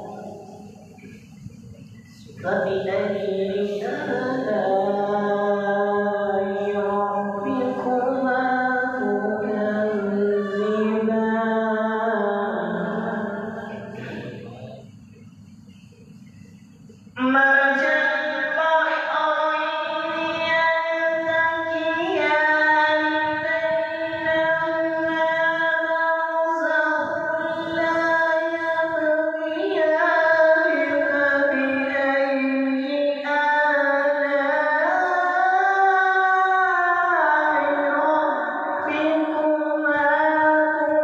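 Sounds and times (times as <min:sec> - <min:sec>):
person chanting melodically: 0:00.0 - 0:15.0, 0:17.2 - 0:41.0.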